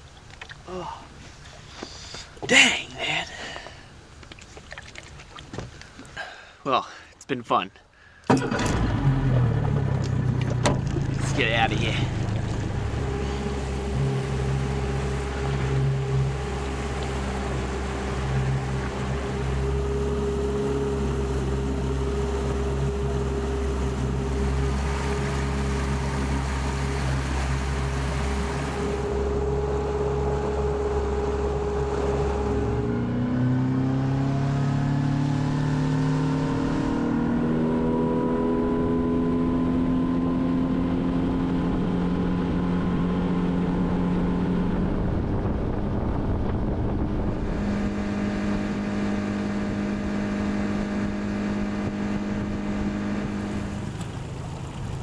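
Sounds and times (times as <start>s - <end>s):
water rushing along hull: 0.0s - 55.0s
outboard motor running: 8.3s - 55.0s.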